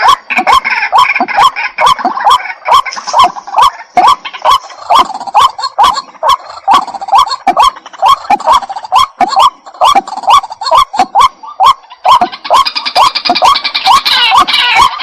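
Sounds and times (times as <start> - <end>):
waterhen calling harshly: 0.0 - 15.0.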